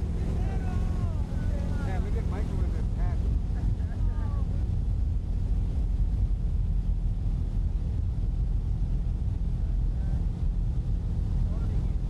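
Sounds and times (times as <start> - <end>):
motorboat engine rumbling: 0.0 - 12.0.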